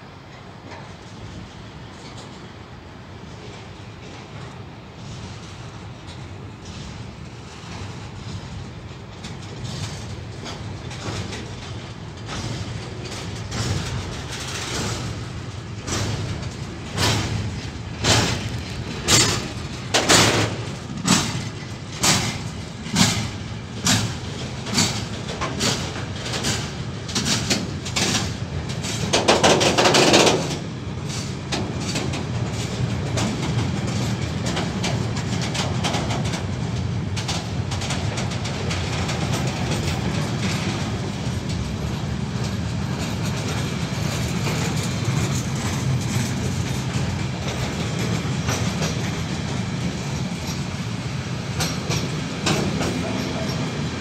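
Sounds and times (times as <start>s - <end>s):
freight train rumbling past: 0.0s - 54.0s
train wheels clacking over rail joints: 0.1s - 54.0s.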